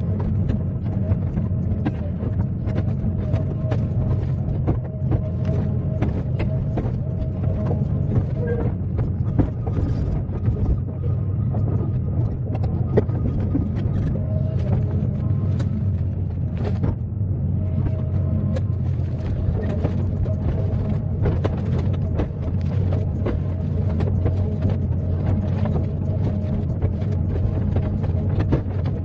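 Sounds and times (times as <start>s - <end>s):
excavator engine running: 0.0s - 29.0s.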